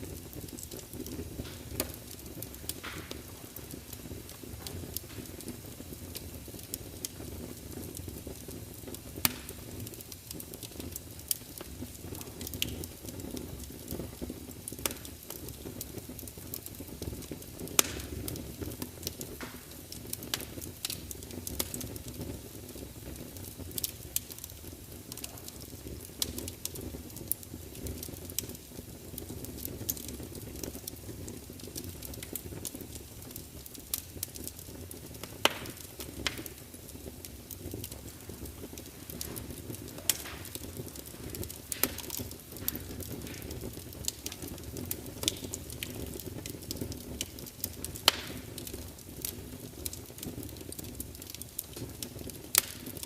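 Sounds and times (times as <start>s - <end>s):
burning logs crackling: 0.0s - 53.0s
flames rumbling: 0.0s - 53.0s.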